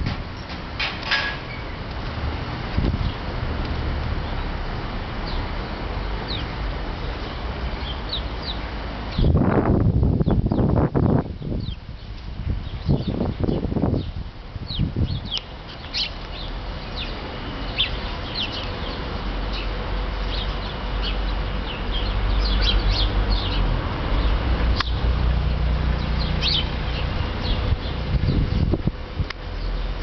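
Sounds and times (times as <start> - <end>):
sparrows chirping: 1.4 - 1.9, 2.9 - 3.4, 4.2 - 30.0.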